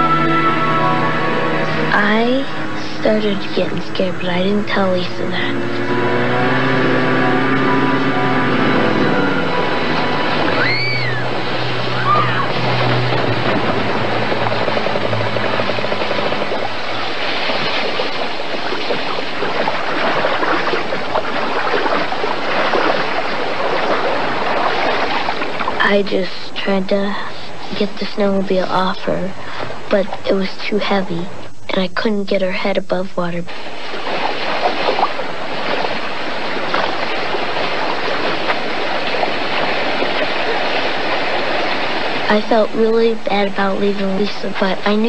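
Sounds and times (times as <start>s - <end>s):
creek water rushing: 0.0s - 30.2s, 33.5s - 45.0s.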